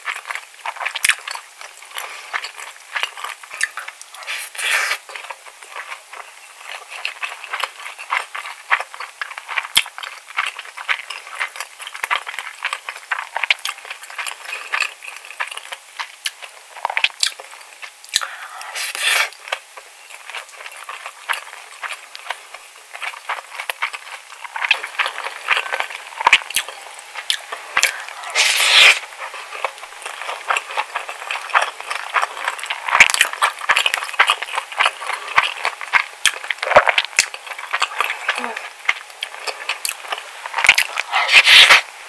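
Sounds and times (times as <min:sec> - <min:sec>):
wet chewing and lip smacking: 0:00.0 - 0:41.8.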